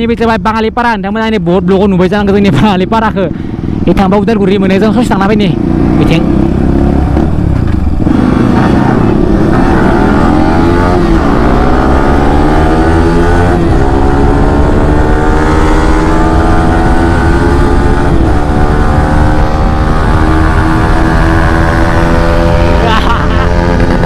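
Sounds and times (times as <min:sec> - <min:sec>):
motorcycle engine accelerating: 0:02.6 - 0:24.0.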